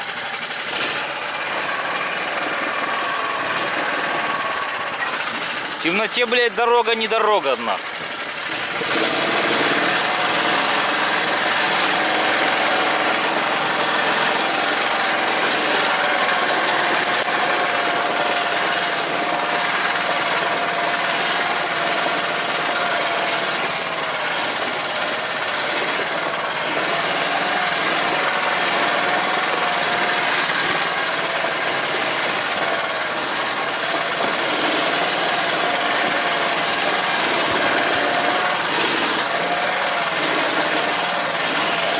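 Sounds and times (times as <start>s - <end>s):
buggy engine running with whine: 0.0s - 41.9s.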